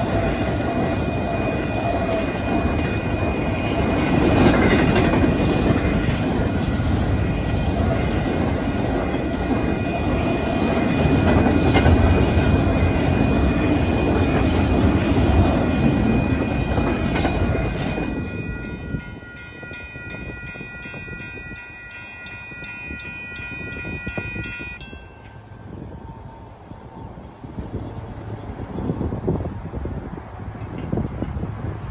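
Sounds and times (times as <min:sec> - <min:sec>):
train wheels rumbling over rails: 0:00.0 - 0:21.3, 0:24.1 - 0:31.9
crossing warning bell ringing: 0:00.0 - 0:27.4.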